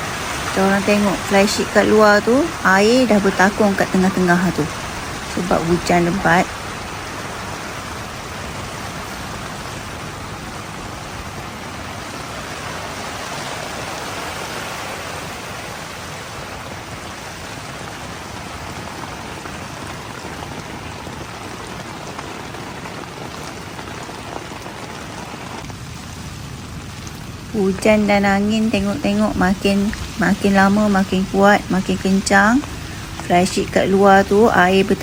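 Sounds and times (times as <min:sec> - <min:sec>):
heavy rain falling on a tent: 0:00.0 - 0:35.0.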